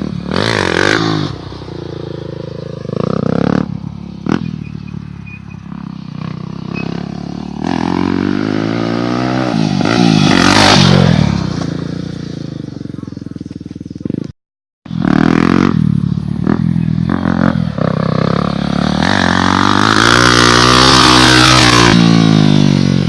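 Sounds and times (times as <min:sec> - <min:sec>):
motocross bike engines revving: 0:00.0 - 0:14.3, 0:14.9 - 0:23.0.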